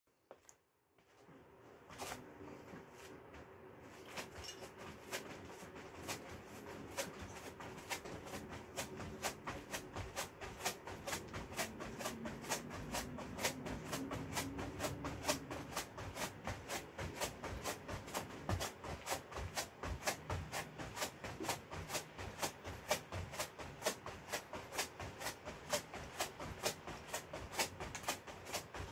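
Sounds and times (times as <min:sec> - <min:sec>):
sneakers tapping on foam mat: 0:01.9 - 0:28.9.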